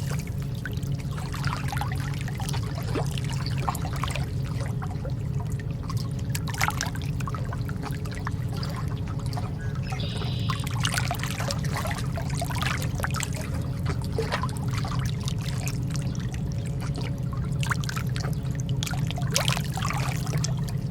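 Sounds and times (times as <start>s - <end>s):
sea water lapping and splashing: 0.0s - 20.9s
steady low rumble: 0.0s - 20.9s.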